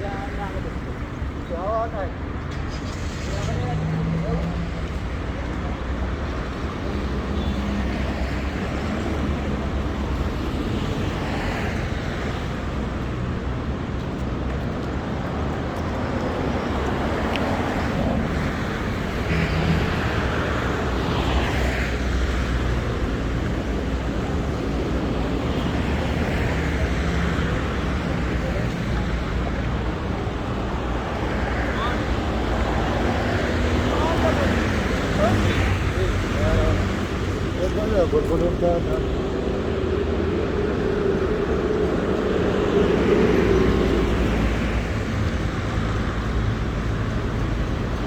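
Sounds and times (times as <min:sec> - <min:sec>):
vehicle engines passing: 0:00.0 - 0:48.0.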